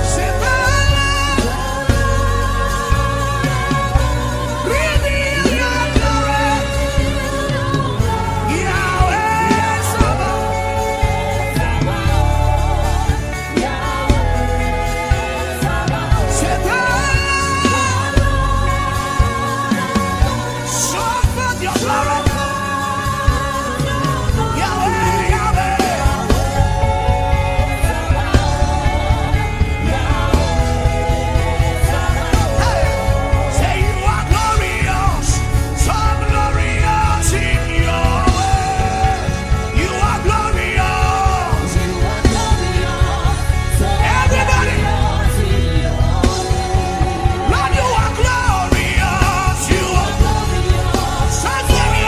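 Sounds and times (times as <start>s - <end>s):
band with steady beat: 0.0s - 52.0s
music backing with heavy bass: 0.0s - 52.0s
person singing: 0.0s - 52.0s.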